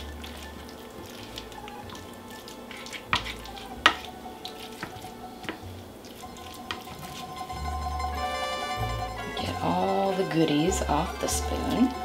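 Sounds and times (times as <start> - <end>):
spoon scraping wet mixture: 0.0 - 12.0.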